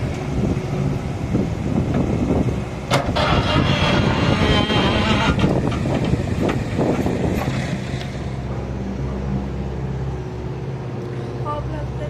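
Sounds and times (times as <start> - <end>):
digger engine running: 0.0 - 12.0.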